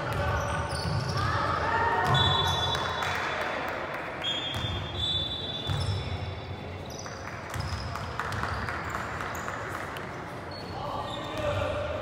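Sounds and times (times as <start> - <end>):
gym hall noise: 0.0 - 12.0.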